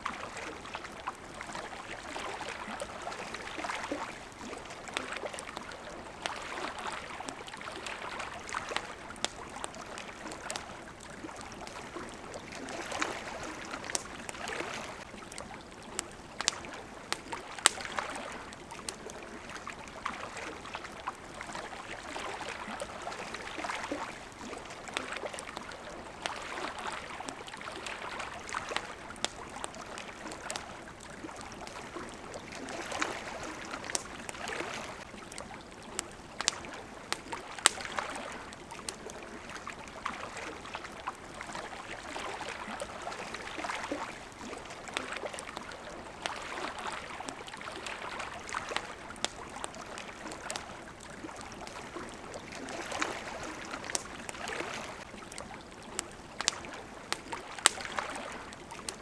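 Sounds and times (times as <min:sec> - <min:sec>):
campfire crackling: 0:00.0 - 0:59.0
small waves lapping: 0:00.0 - 0:59.0.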